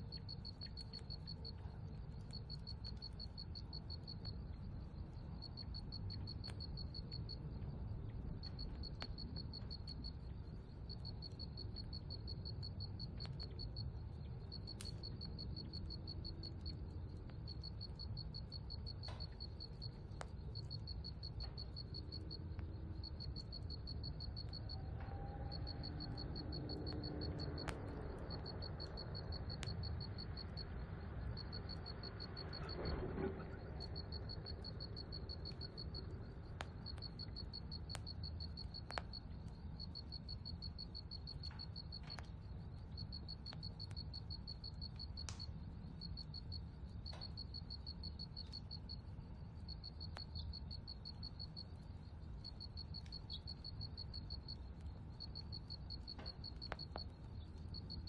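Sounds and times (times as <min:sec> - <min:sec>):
faint clicks: 0:00.0 - 0:49.0, 0:52.5 - 0:58.0
crickets chirping: 0:00.0 - 0:58.0.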